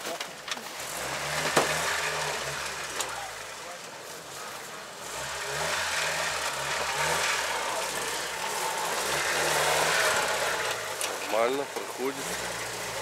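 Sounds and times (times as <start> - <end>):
off-road vehicle engine revving: 0.5 - 13.0.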